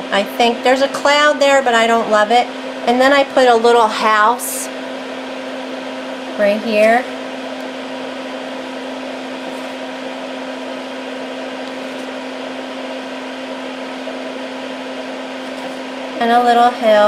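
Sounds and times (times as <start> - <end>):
fume extractor fan whirring: 0.0 - 17.0.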